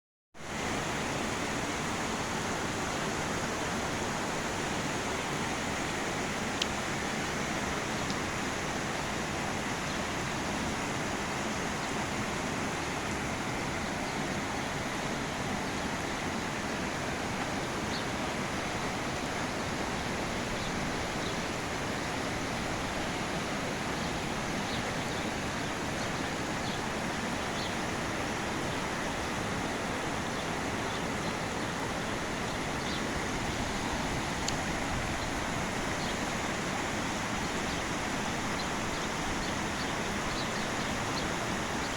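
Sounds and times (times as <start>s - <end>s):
heavy rain hiss: 0.4s - 41.9s.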